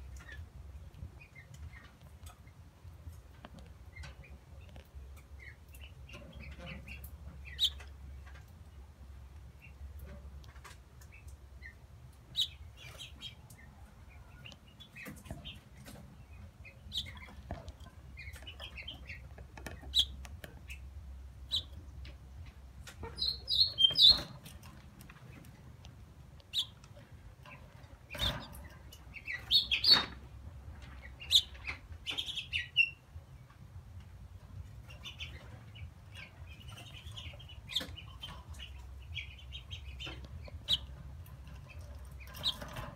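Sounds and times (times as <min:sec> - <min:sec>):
young finch chirping: 0:03.5 - 0:08.5, 0:09.6 - 0:13.6, 0:14.4 - 0:25.6, 0:26.4 - 0:30.2, 0:30.8 - 0:33.1, 0:34.7 - 0:42.9.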